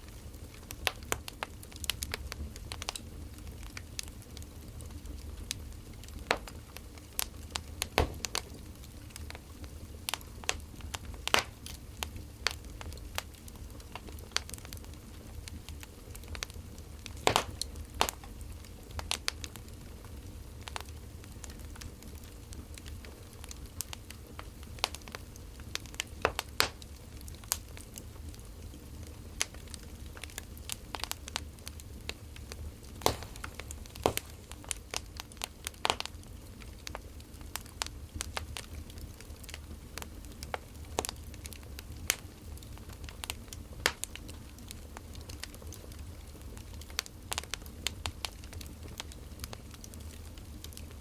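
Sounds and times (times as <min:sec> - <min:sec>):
low steady hum: 0:00.0 - 0:44.9
firewood crackling and popping: 0:00.0 - 0:51.0.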